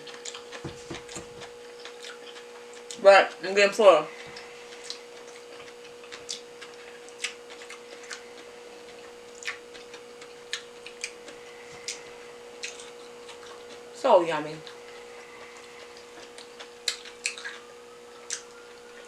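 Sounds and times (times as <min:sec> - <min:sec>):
faint electrical hum: 0:00.0 - 0:19.0
wet chewing sounds: 0:00.0 - 0:19.0.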